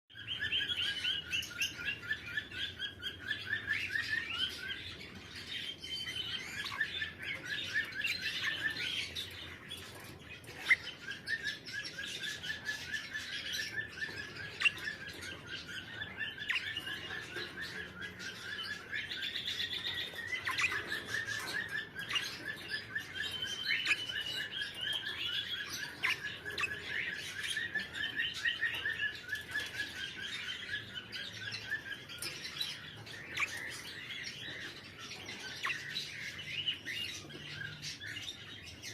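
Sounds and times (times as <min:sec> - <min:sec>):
parrots chirping: 0:00.2 - 0:38.9.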